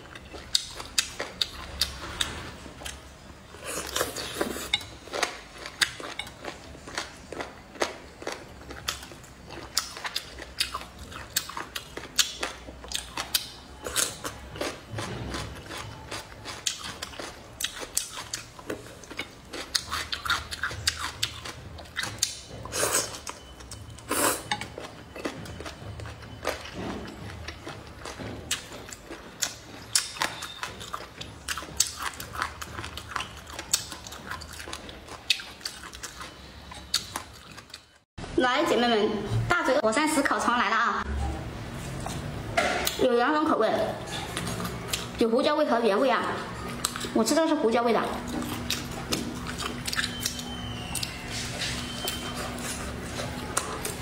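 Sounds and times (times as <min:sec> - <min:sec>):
person chewing and biting: 0:00.0 - 0:38.0, 0:46.5 - 0:47.2, 0:48.2 - 0:54.0.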